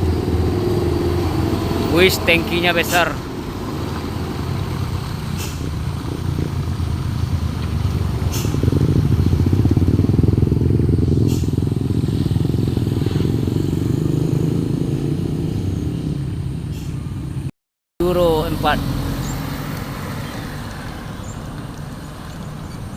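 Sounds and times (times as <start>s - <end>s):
diesel truck engine passing: 0.0s - 22.9s.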